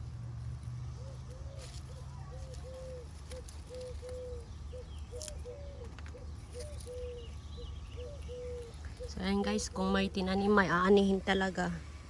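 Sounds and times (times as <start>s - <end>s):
low steady hum: 0.0s - 12.0s
bird calling: 0.9s - 11.4s.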